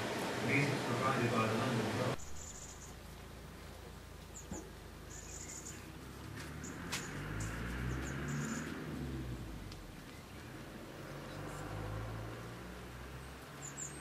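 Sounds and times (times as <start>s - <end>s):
small birds chirping: 2.1s - 14.0s.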